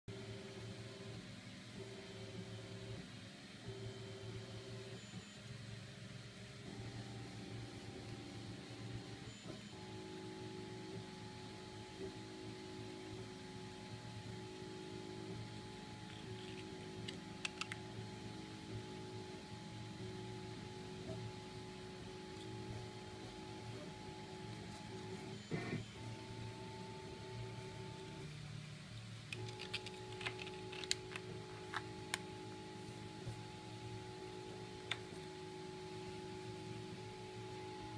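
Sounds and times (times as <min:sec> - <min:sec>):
faint hum of held tones: 0:00.1 - 0:37.9.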